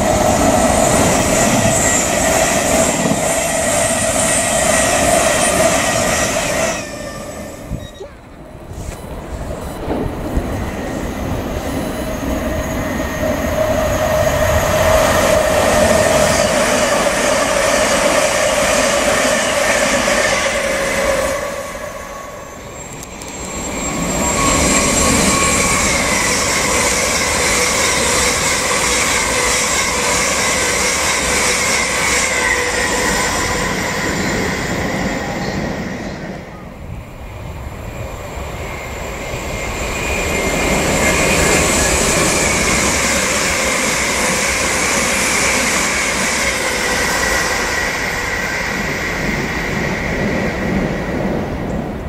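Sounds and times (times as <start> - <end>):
train whine: 0.0 - 52.0
trains rolling past at speed: 0.0 - 52.0.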